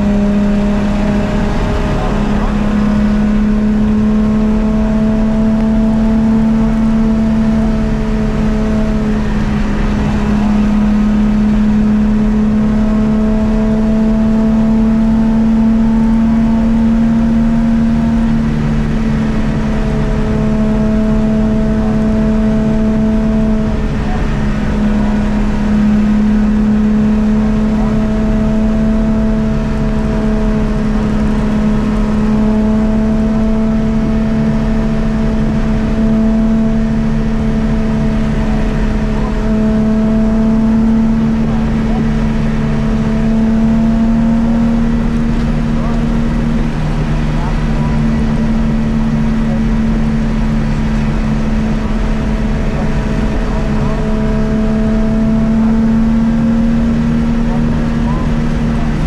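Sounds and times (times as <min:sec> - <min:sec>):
rally car engine running hard: 0:00.0 - 0:59.0.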